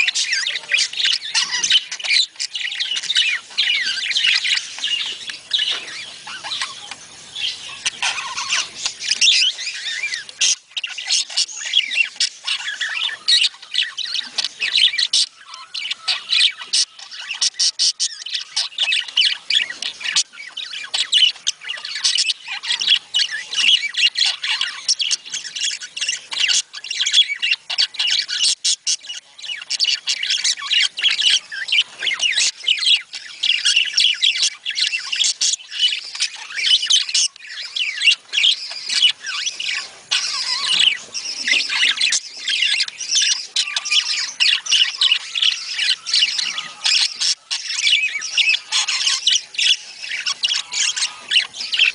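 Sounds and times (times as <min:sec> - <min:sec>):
budgerigars chattering and squawking: 0:00.0 - 0:51.9.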